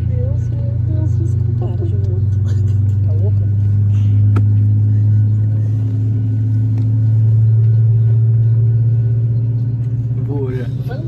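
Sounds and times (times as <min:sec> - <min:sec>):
airliner cabin engine drone: 0:00.0 - 0:11.0.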